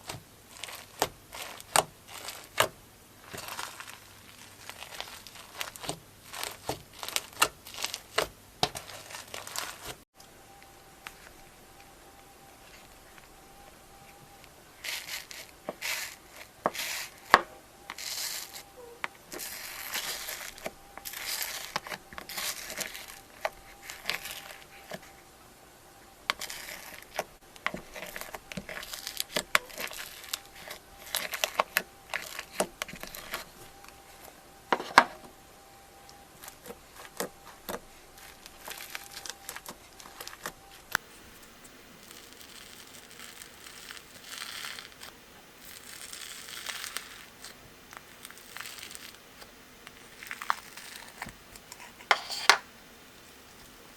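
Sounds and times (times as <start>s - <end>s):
slime crackling and popping: 0.0s - 10.0s, 14.8s - 18.6s, 19.3s - 25.0s, 26.2s - 34.0s, 36.1s - 52.0s.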